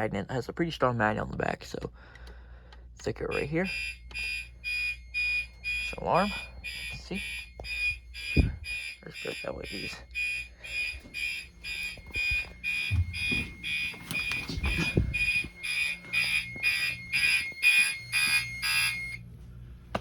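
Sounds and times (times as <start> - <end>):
fire alarm horn pulsing: 3.1 - 19.3.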